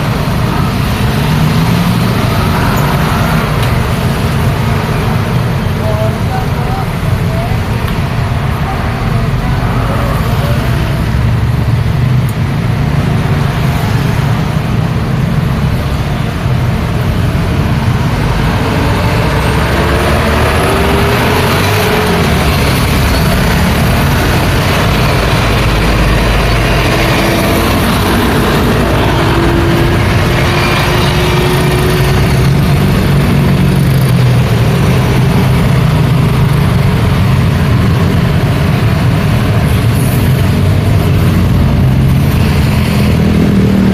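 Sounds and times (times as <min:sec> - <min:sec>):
road traffic engine rumble: 0:00.0 - 0:43.9.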